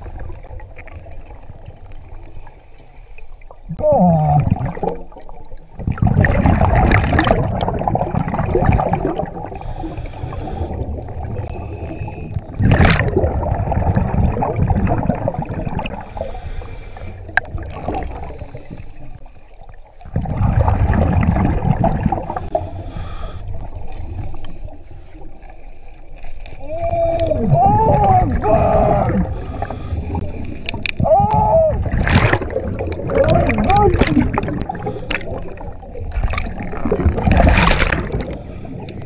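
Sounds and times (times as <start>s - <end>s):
diver breathing bubbles underwater: 2.2s - 25.9s, 28.2s - 31.1s, 31.7s - 39.0s.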